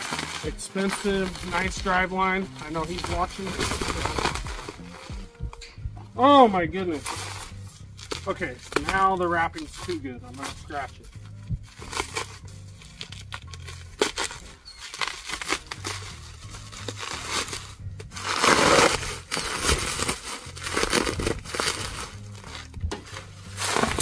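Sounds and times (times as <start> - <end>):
plastic packaging crinkling and tearing: 0.0 - 5.2, 6.9 - 11.0, 11.7 - 24.0.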